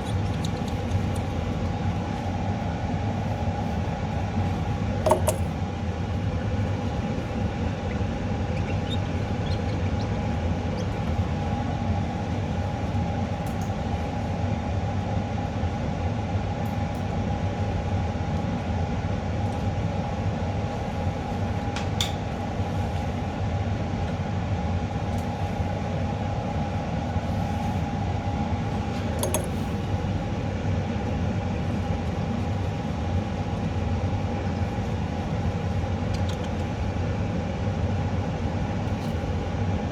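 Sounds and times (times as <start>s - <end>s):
mechanical hum and whine: 0.0s - 39.9s.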